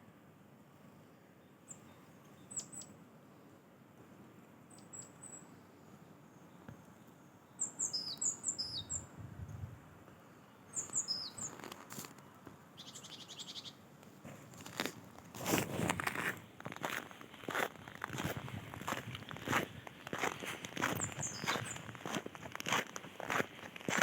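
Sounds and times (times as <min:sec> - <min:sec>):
songbirds chirping: 0:00.7 - 0:09.2, 0:10.0 - 0:15.3, 0:15.9 - 0:24.0.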